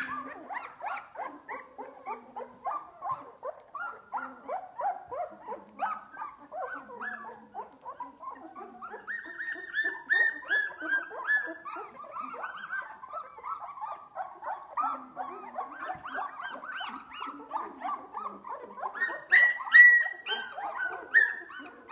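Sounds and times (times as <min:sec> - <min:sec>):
puppies crying: 0:00.0 - 0:21.9.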